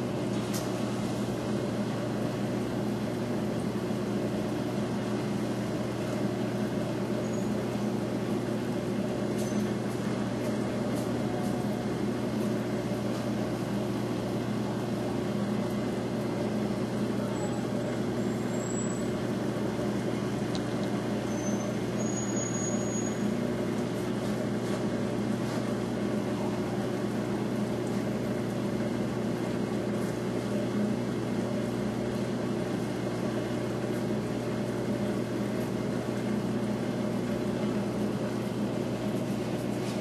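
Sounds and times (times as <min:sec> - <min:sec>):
aquarium equipment humming: 0:00.0 - 0:40.0.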